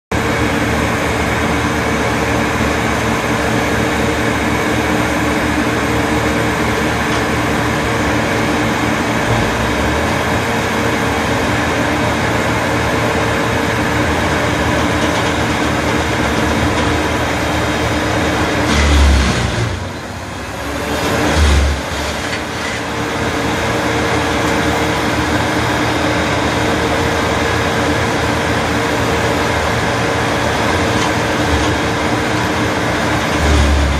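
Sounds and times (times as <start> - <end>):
wood chipper running: 0.1 - 33.9.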